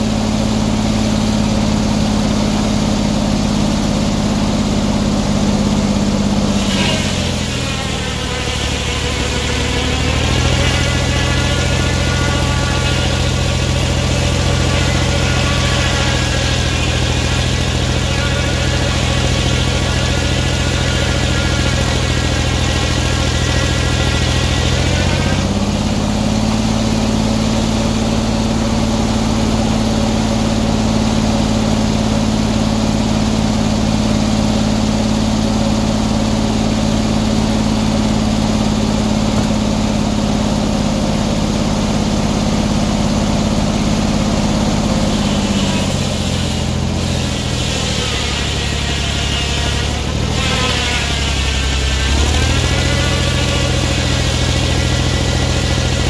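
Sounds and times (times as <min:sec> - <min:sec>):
saw blade cutting log: 0:00.0 - 0:56.0
sawmill engine running: 0:00.0 - 0:56.0.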